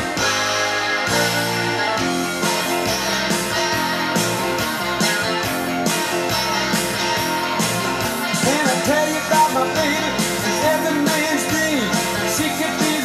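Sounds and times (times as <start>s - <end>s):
bending lead guitar line: 0.0s - 13.0s
blues-rock band playing: 0.0s - 13.0s.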